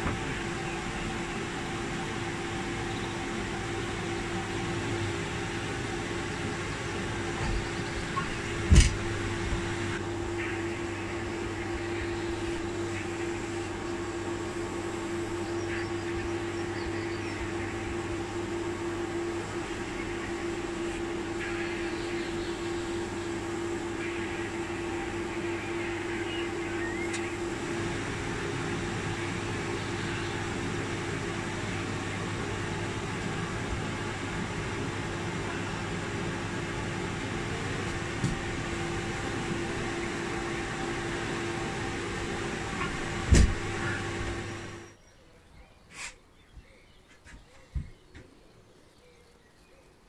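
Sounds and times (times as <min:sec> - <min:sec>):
electric fan humming: 0:00.0 - 0:45.0.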